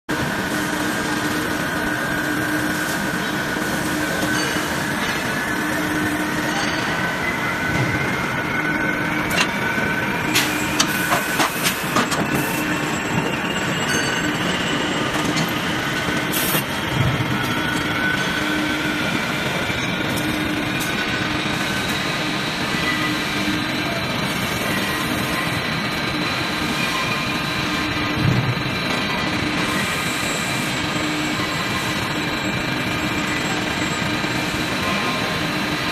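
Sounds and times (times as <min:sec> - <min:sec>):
machinery din with hum: 0:00.1 - 0:35.9.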